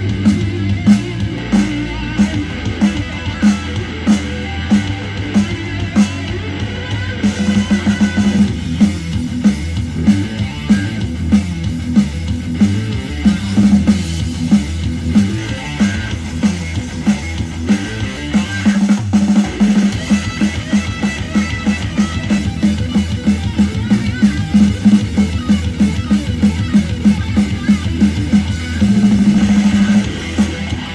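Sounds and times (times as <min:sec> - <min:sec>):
instrumental rock music: 0:00.0 - 0:30.9.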